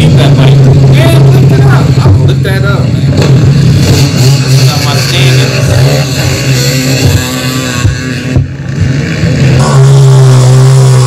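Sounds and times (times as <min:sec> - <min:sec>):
quad engines revving: 0:00.0 - 0:11.0.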